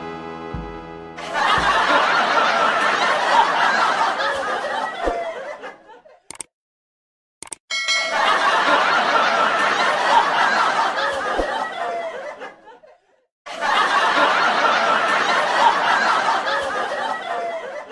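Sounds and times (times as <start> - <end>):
canned crowd laughter: 1.2 - 6.3, 8.1 - 17.9.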